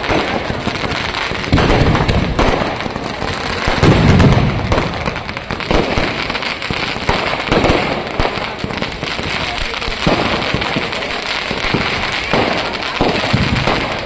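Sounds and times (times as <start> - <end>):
fireworks cracking and banging: 0.0 - 14.0
heavy firework booms: 0.0 - 14.0.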